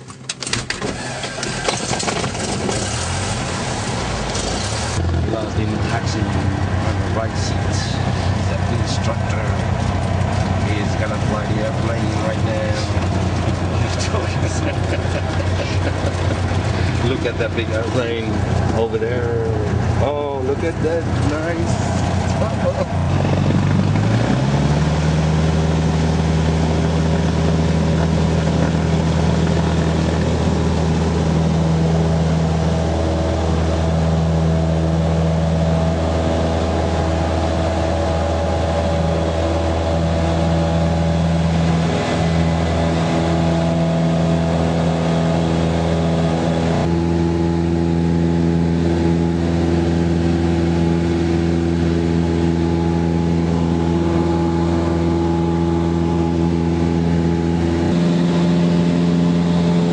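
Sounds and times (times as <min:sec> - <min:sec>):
airplane engine drone from cabin: 0:00.0 - 0:59.9.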